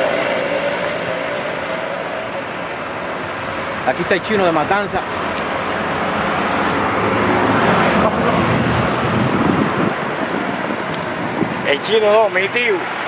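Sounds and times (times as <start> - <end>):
car driving past: 0.0 - 11.5.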